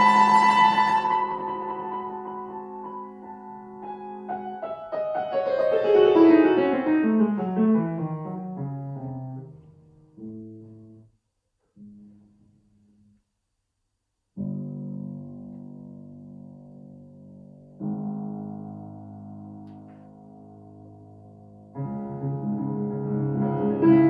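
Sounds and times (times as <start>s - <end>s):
solo grand piano: 0.0s - 13.2s, 14.3s - 24.0s.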